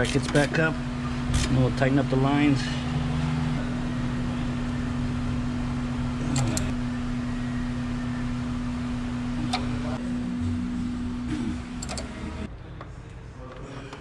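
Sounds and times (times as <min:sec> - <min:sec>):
steady hum: 0:00.0 - 0:13.8.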